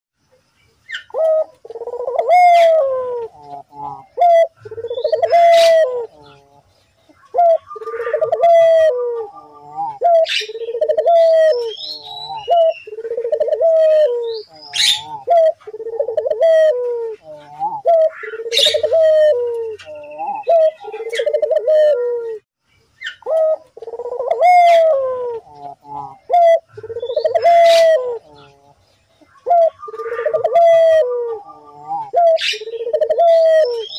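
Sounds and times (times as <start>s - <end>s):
small birds chirping: 0.2s - 33.9s
dove cooing: 0.9s - 22.4s, 23.0s - 33.9s.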